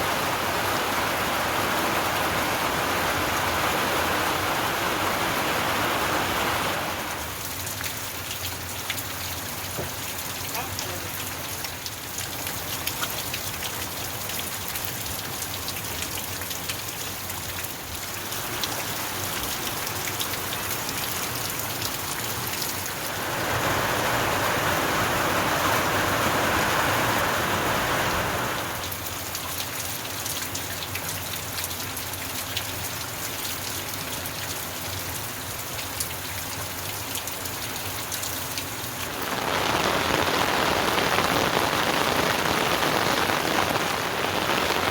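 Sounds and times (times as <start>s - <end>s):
heavy rain falling: 0.0s - 44.9s
raindrops ticking on surfaces: 0.0s - 44.9s.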